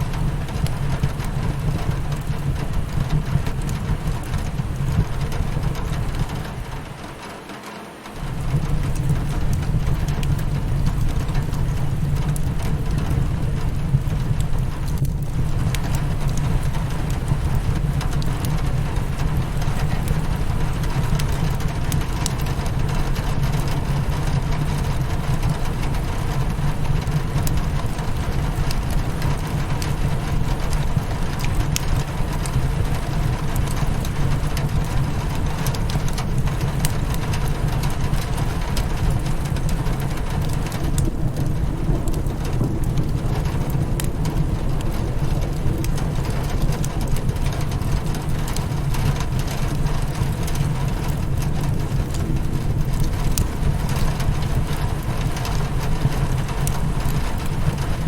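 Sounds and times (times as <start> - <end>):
heavy low rumble: 0.0 - 7.0, 8.2 - 58.0
crackling fireplace: 0.0 - 58.0
rain on a windowpane: 0.0 - 58.0.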